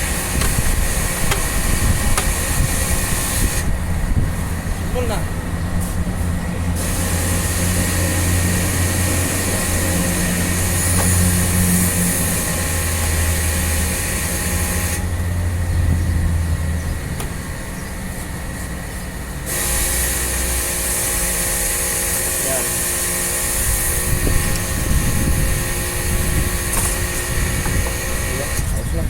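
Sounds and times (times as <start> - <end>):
loud hissing rush: 0.0 - 16.6, 17.3 - 29.0
machine motor humming: 0.0 - 28.9.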